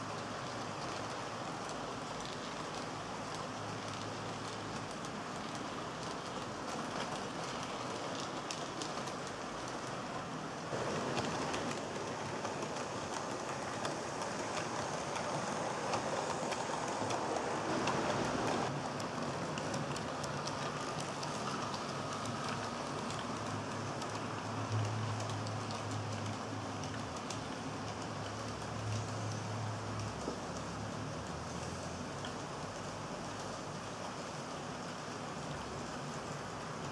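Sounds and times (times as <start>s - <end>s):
model train wheels and motors: 0.0s - 36.9s
clicking over rail joints: 0.1s - 36.9s.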